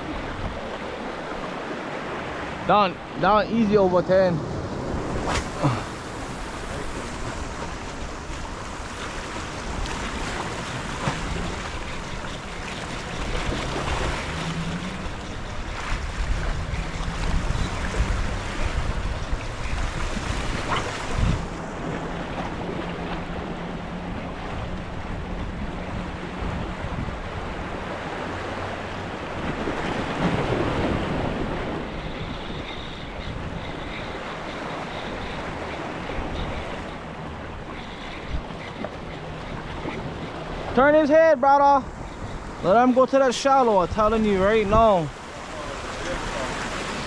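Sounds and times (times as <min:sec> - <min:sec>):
wind buffeting microphone: 0:00.0 - 0:40.7, 0:41.8 - 0:43.1
ocean surf on shore: 0:00.0 - 0:47.0.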